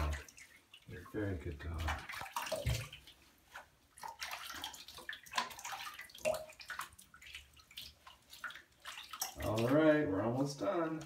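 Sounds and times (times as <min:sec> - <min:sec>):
water splashing in bathtub: 0:00.0 - 0:11.0.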